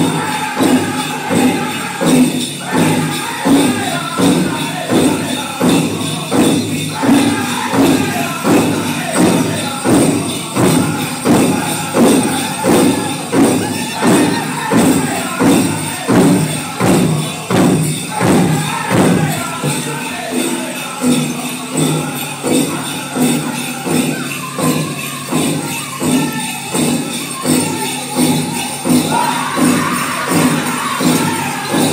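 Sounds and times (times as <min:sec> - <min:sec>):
big drum beat: 0:00.0 - 0:31.9
group singing: 0:00.0 - 0:31.9
jingling bells: 0:00.0 - 0:31.9.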